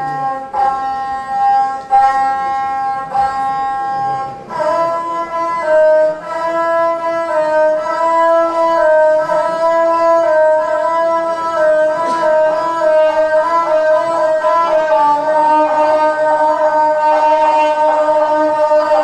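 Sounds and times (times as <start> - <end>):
bowed single-string instrument: 0.0 - 19.0.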